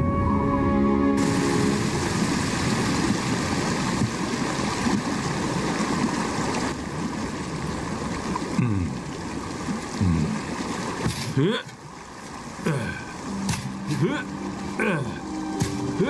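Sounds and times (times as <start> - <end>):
mountain stream rushing: 1.2 - 16.0.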